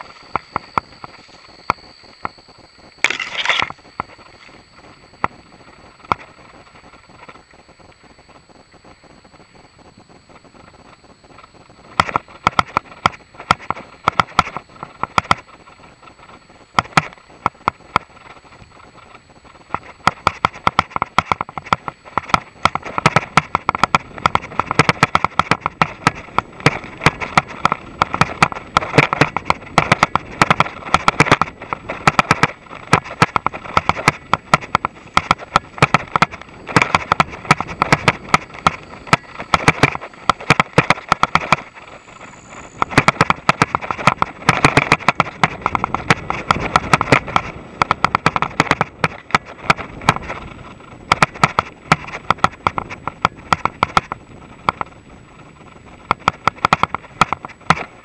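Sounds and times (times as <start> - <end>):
mountain bike rattling on trail: 0.0 - 58.0.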